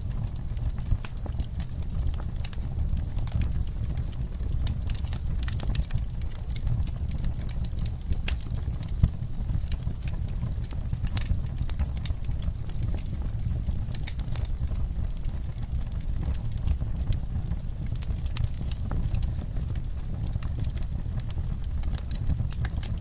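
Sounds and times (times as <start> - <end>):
fire crackling and popping: 0.0 - 23.0
low fire rumble: 0.0 - 23.0.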